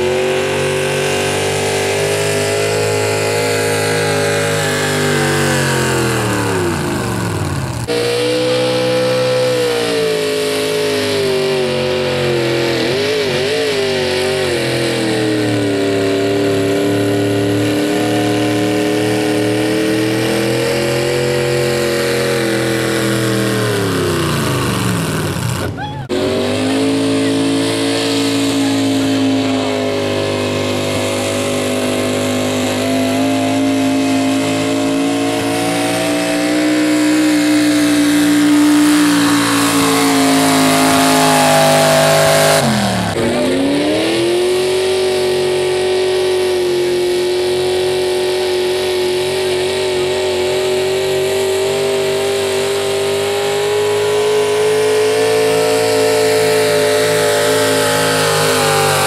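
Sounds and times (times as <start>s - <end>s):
truck engines revving high: 0.0s - 59.0s.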